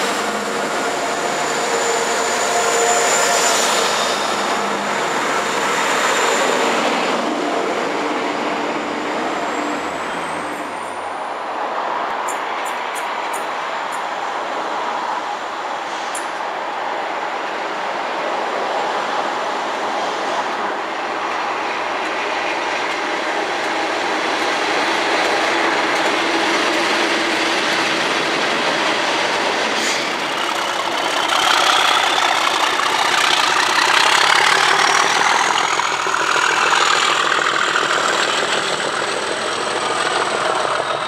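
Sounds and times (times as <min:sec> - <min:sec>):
diesel locomotive rumbling past: 0:00.0 - 0:41.0.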